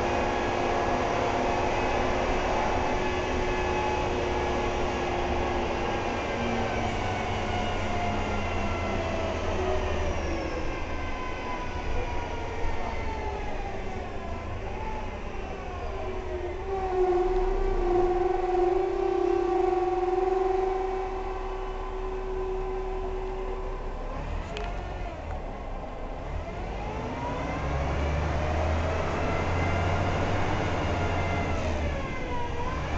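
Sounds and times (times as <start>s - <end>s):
bus motor whine: 0.0s - 32.9s
road rumble: 0.0s - 32.9s.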